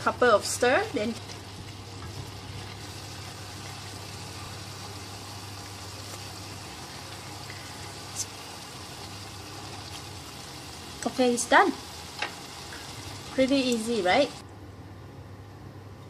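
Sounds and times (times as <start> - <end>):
stir-fry sizzling in a pan: 0.0 - 14.4.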